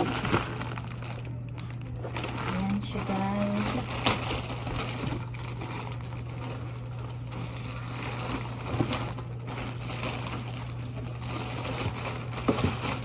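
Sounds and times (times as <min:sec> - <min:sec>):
packaging rustling: 0:00.0 - 0:13.0
steady low hum: 0:00.0 - 0:13.0.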